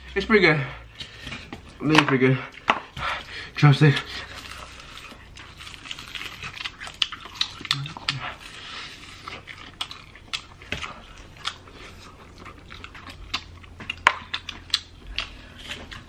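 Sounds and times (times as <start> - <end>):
people chewing with mouths open: 0.8 - 16.0.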